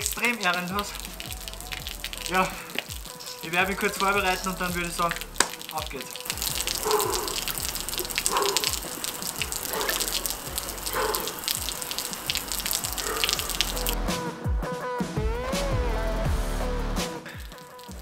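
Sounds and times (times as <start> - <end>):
hose water spattering on stone: 0.0 - 14.0, 17.2 - 18.0.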